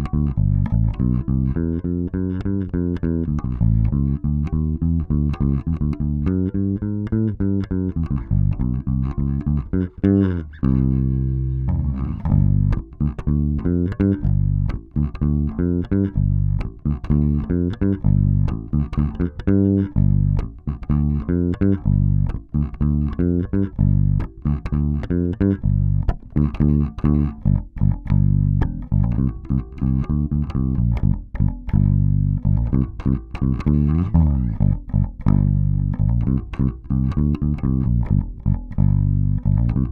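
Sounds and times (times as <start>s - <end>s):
bass guitar played with fingers: 0.0s - 39.9s.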